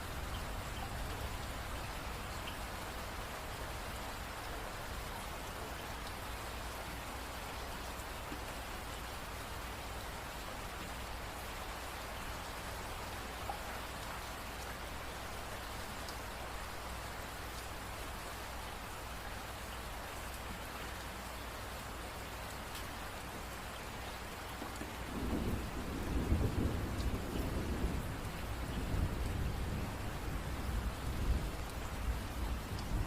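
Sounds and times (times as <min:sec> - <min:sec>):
rain falling on a surface: 0:00.0 - 0:33.0.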